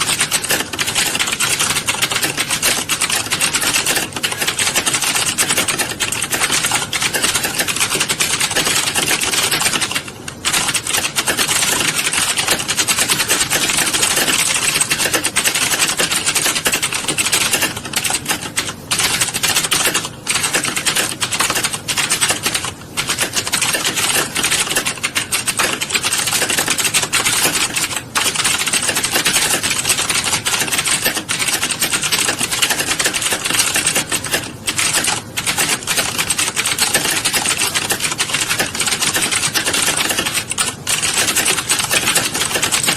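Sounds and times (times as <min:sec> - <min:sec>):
fast keyboard typing: 0:00.0 - 0:42.9.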